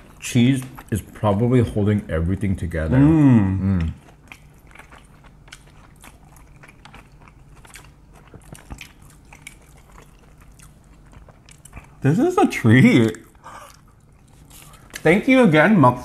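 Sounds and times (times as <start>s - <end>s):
people chewing crunchy food: 0.0s - 15.3s.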